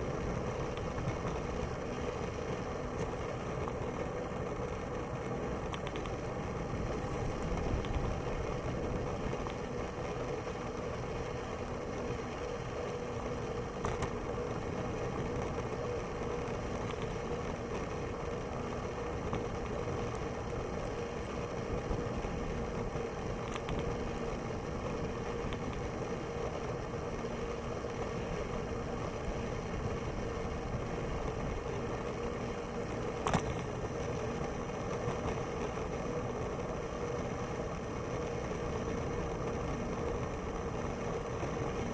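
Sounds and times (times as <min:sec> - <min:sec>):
bicycle rolling on asphalt: 0:00.0 - 0:41.9.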